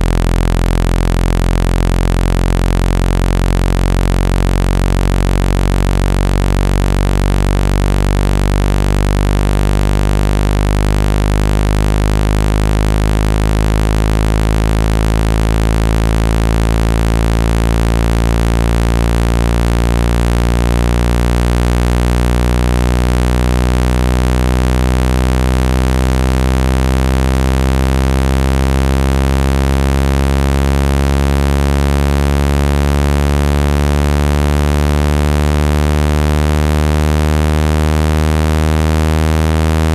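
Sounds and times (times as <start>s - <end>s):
synthesized low buzzing tone: 0.0s - 39.9s.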